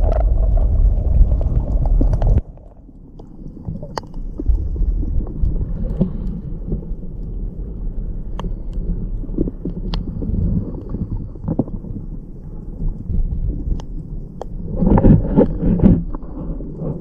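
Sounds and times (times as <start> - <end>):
underwater rumble of surging water: 0.0 - 17.0.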